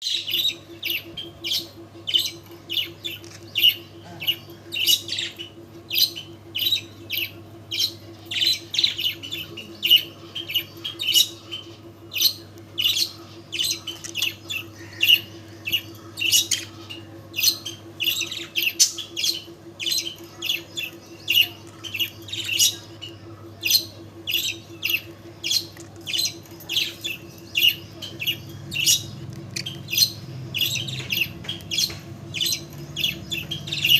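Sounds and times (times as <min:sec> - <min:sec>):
pet bird chirping and squawking: 0:00.0 - 0:33.9
steady low hum: 0:00.0 - 0:33.9.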